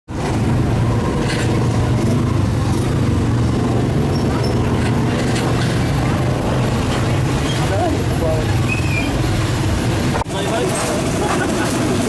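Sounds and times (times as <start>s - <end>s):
road and traffic noise: 0.1s - 12.0s
vehicle engine rumbling: 0.1s - 12.0s.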